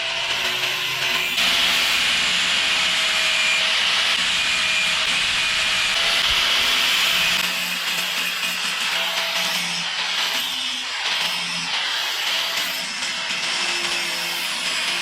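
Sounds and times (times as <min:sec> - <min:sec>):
metal being ground: 0:00.0 - 0:15.0.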